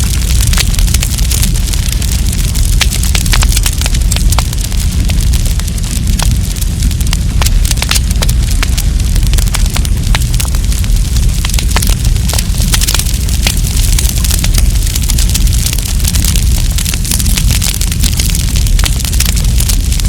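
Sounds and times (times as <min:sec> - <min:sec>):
campfire crackling and popping: 0:00.0 - 0:20.0
low rumble: 0:00.0 - 0:20.0.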